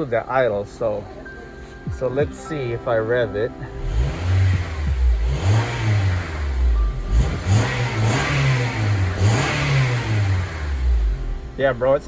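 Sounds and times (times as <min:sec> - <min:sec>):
car engine revving: 0:01.9 - 0:12.0.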